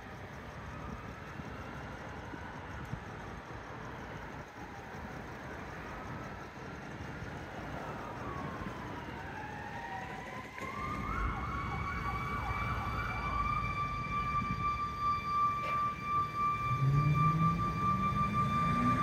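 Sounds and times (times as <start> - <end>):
emergency siren wailing and yelping: 0.0 - 19.0.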